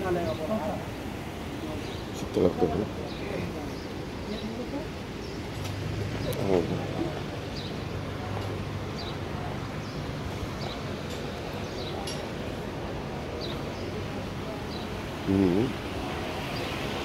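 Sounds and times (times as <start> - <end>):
open-air background noise: 0.0 - 17.0.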